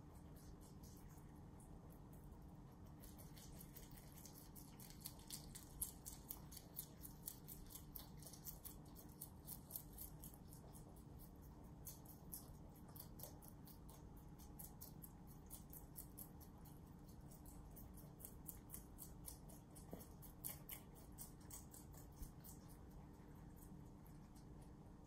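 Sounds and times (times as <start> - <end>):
rabbits crunching greens: 0.0 - 25.0.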